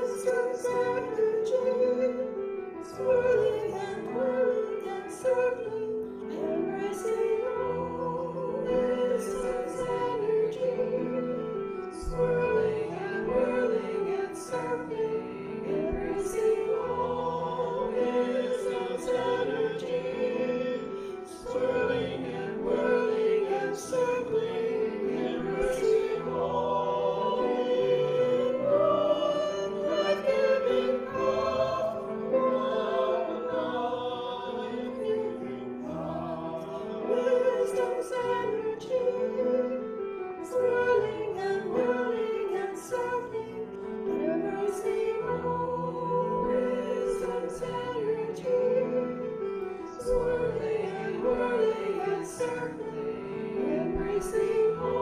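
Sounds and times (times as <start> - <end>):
choir singing sustained notes: 0.0 - 55.0.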